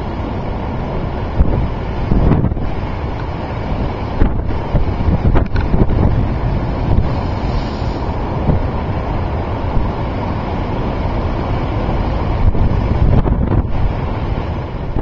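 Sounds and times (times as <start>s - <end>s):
waves surging: 0.0s - 15.0s
wind buffeting microphone: 0.0s - 15.0s.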